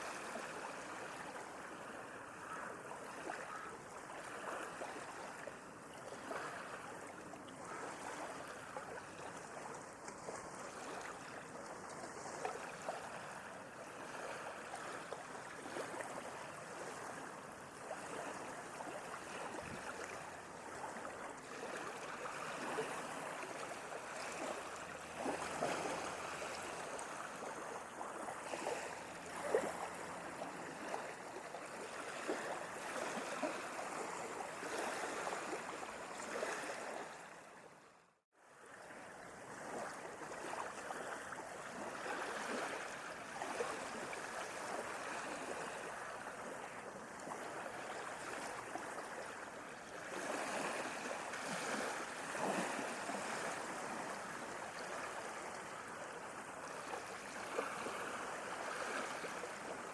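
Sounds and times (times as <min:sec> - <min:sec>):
sea waves lapping: 0:00.0 - 0:59.9.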